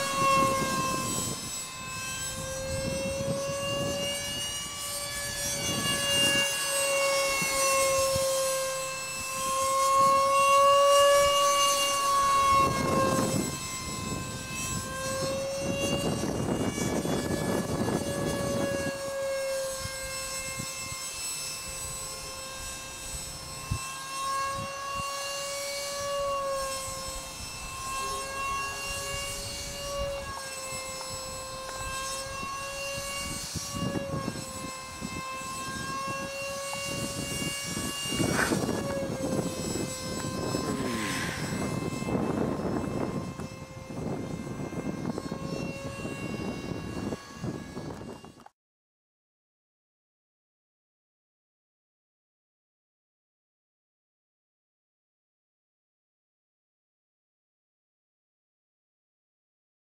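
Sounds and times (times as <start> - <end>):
model jet motor whining: 0.0 - 48.6.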